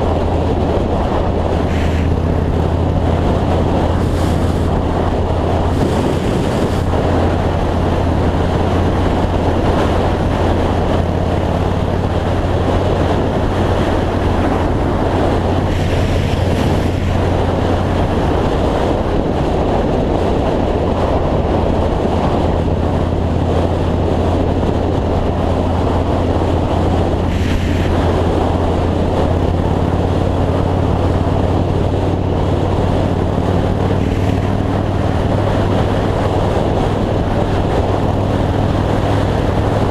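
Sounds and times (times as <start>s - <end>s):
motorcycle engine cruising: 0.0s - 39.9s
wind rush over microphone: 0.0s - 39.9s.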